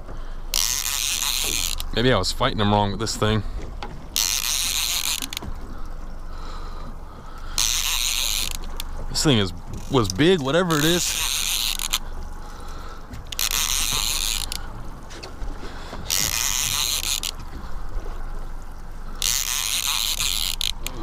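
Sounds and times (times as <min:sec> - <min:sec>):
steady low hum: 0:00.0 - 0:21.0
fishing reel cranking: 0:00.2 - 0:21.0.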